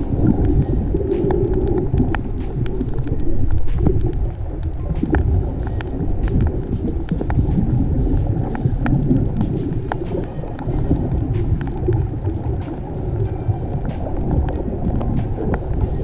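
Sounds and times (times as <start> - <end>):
muffled underwater rumble: 0.0 - 16.0
sharp underwater clicks: 0.0 - 16.0.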